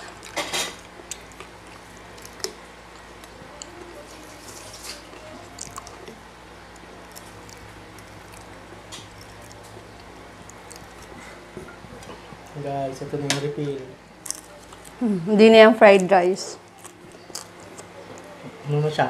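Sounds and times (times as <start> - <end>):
faint chewing: 0.0 - 12.5, 14.2 - 15.1, 15.9 - 18.6
steady low hum: 0.0 - 19.0.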